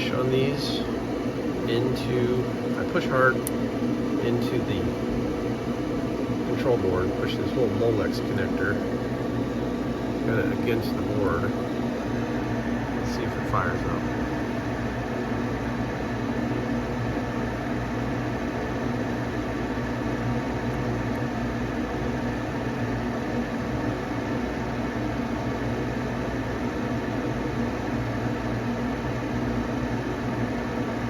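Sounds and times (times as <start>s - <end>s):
furnace motor humming: 0.0s - 31.0s.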